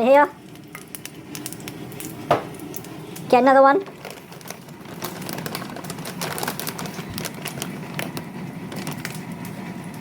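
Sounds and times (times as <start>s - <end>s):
oil crackling and popping in pan: 0.0s - 10.0s.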